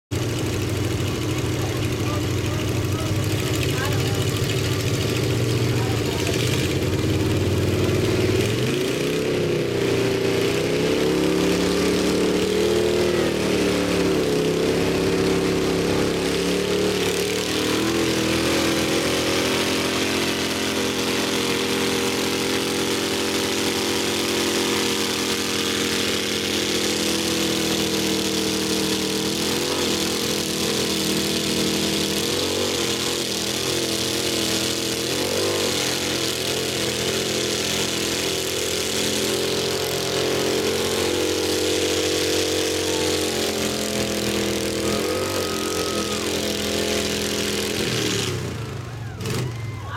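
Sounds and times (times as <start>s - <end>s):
truck engines at high revs: 0.0s - 49.9s.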